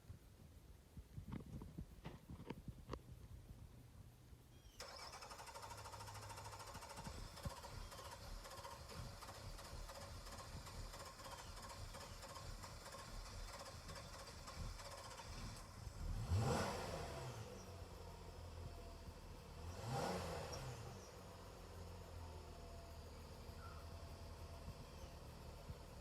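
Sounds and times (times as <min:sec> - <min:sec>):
car engine cranking: 0:04.7 - 0:26.0.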